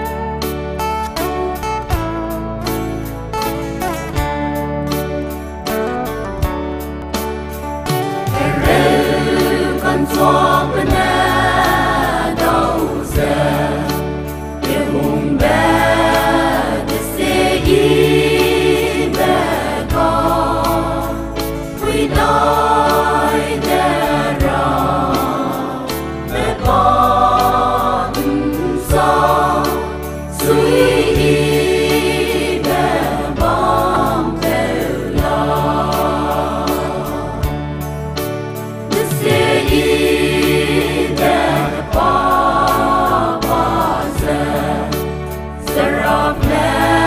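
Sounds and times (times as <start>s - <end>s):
choir singing a hymn: 8.2s - 37.9s, 38.9s - 47.0s.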